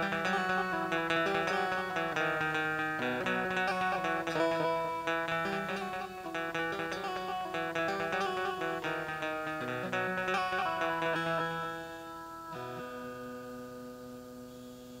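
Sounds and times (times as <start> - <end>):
plucked zither melody: 0.0 - 13.6.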